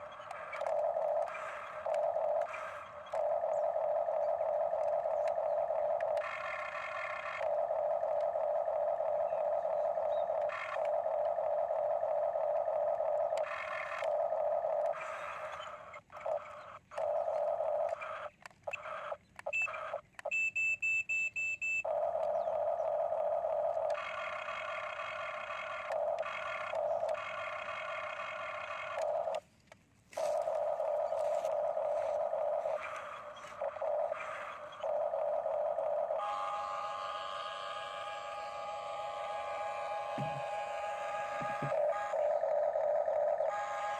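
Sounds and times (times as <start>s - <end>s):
rapid high beeps: 0.0s - 29.4s, 30.2s - 43.9s
toy excavator motors whining: 0.0s - 43.9s.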